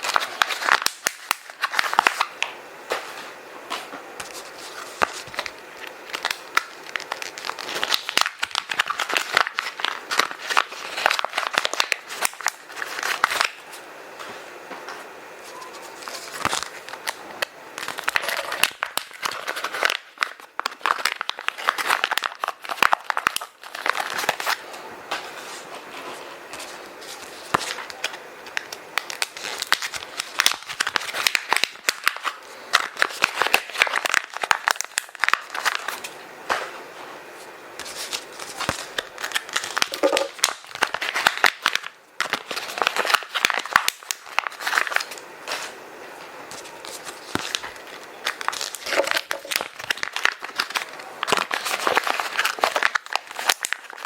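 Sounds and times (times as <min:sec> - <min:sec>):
paper and plastic crinkling: 0:00.0 - 0:36.7, 0:37.4 - 0:54.0.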